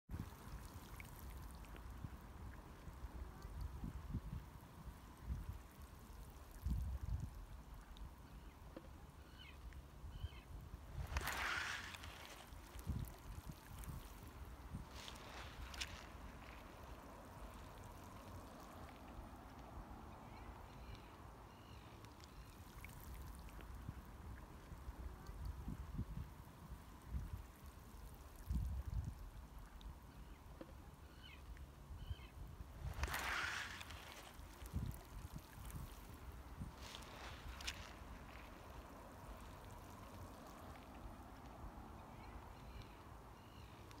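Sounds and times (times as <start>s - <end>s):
wind rumble on microphone: 0.1s - 8.5s, 10.0s - 21.0s, 23.0s - 30.2s, 31.9s - 42.7s
seawater lapping at shore: 0.1s - 44.0s.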